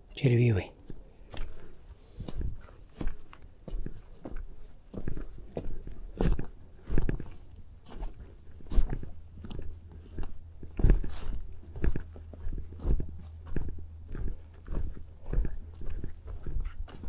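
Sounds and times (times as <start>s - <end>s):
footsteps on forest ground: 0.4s - 17.0s.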